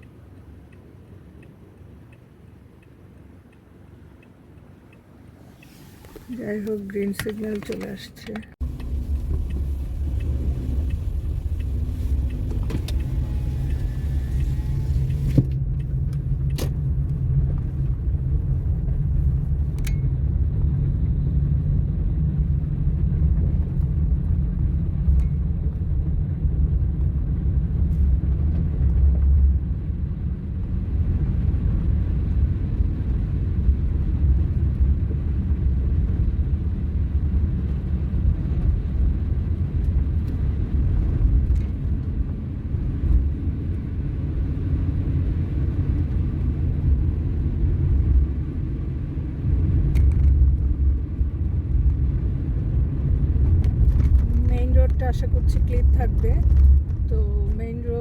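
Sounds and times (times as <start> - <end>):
engine and tyres rumbling: 0.0 - 58.0.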